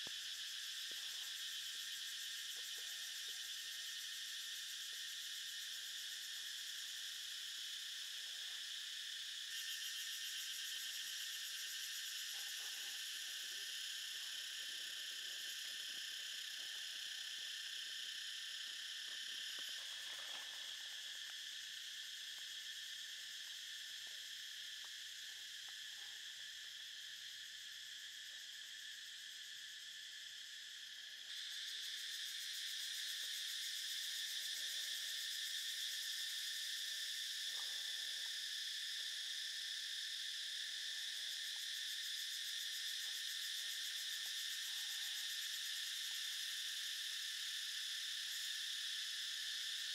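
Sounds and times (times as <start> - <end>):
insect chorus shrilling: 0.0 - 49.9.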